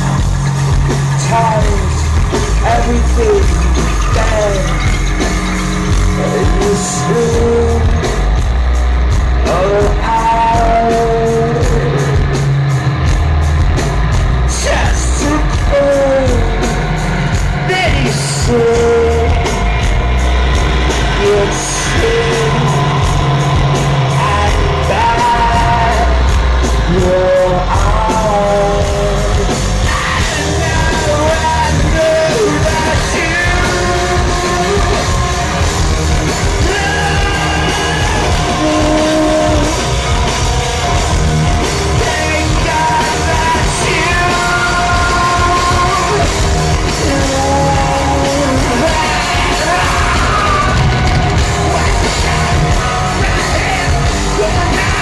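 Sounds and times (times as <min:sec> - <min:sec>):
bass: 0:00.0 - 0:55.0
distorted electric guitar: 0:00.0 - 0:55.0
drums: 0:00.0 - 0:55.0
man singing and shouting: 0:01.1 - 0:08.4, 0:09.4 - 0:12.2, 0:14.4 - 0:17.0, 0:17.6 - 0:19.7, 0:21.0 - 0:23.2, 0:24.0 - 0:35.4, 0:36.5 - 0:40.0, 0:41.9 - 0:55.0.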